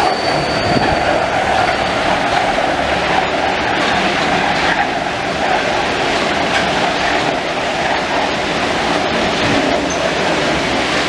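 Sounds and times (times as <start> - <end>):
metro train passing: 0.0 - 11.0.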